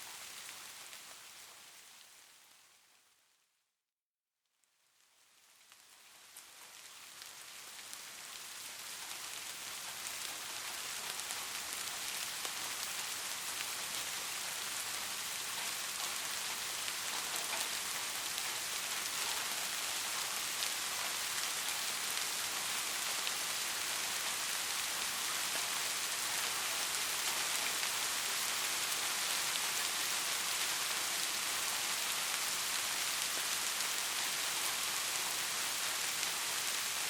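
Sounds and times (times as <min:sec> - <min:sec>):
soft steady rain: 0:00.0 - 0:03.8, 0:04.4 - 0:37.0.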